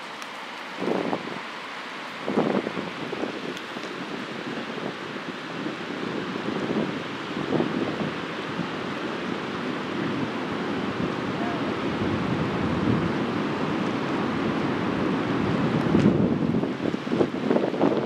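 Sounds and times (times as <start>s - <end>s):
fast-flowing river rushing: 0.0s - 17.9s
wind buffeting microphone: 0.7s - 1.5s, 2.2s - 18.0s.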